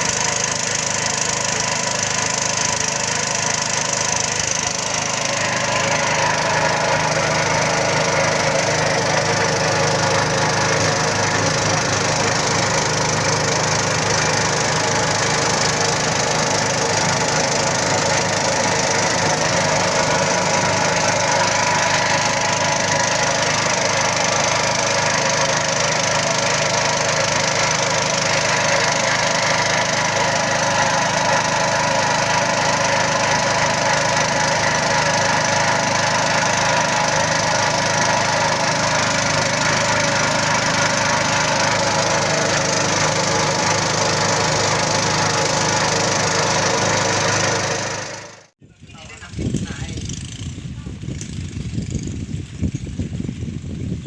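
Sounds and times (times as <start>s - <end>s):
steady mechanical drone: 1.5s - 52.6s.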